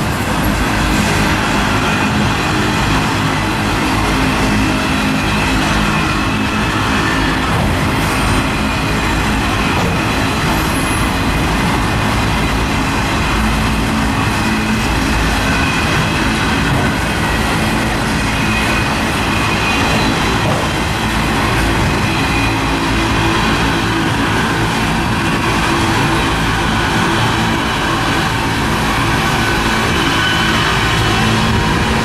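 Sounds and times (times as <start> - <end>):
freight train rumbling on track: 0.0 - 32.0.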